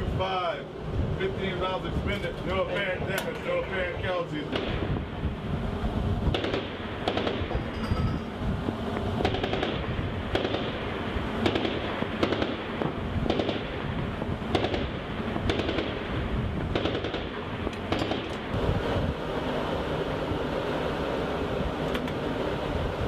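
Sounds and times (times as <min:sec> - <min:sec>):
wind and sea noise: 0:00.0 - 0:23.0.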